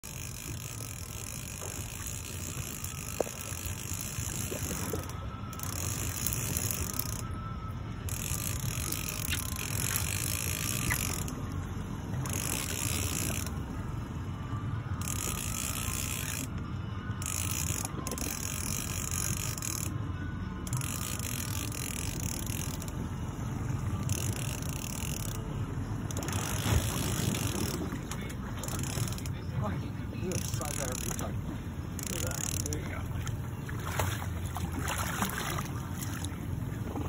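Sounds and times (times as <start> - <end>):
fishing reel gears whirring: 0.0 - 37.0.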